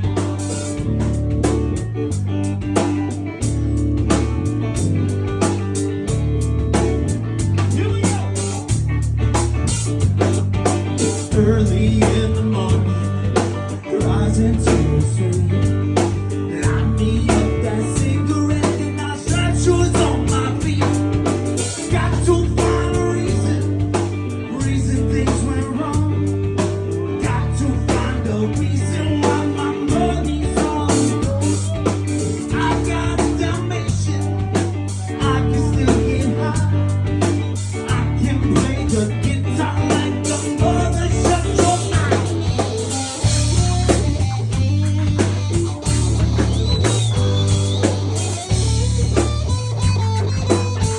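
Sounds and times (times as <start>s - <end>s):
bass guitar: 0.0s - 50.9s
drum kit: 0.0s - 50.9s
electric guitar: 0.0s - 50.9s.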